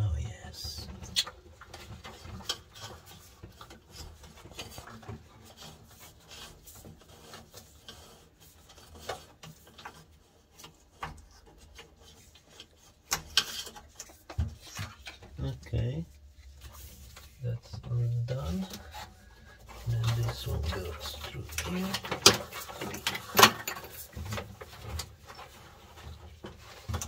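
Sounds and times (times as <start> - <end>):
rubbing and scraping of cables: 0.0 - 27.0.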